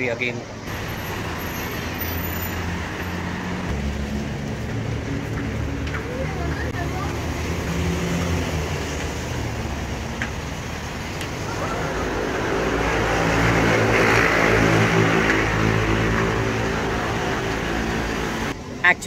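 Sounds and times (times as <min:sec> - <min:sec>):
road traffic: 0:00.0 - 0:19.0
vehicle tyres on wet road: 0:00.7 - 0:18.6.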